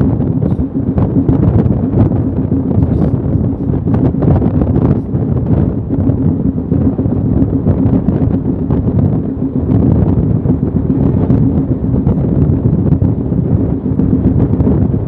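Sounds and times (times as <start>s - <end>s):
train wheels rumbling on rails: 0.0s - 14.9s
wind buffeting microphone: 0.0s - 15.0s.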